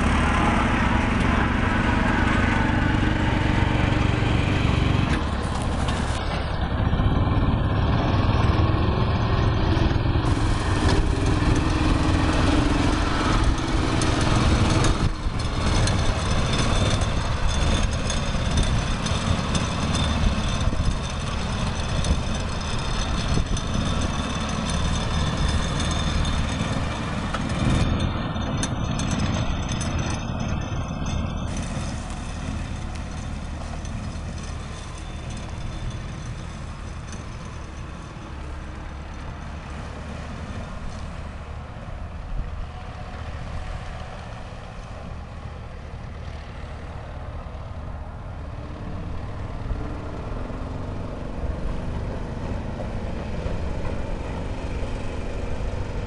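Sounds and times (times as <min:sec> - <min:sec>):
vehicle engine running under load: 0:00.0 - 0:56.0.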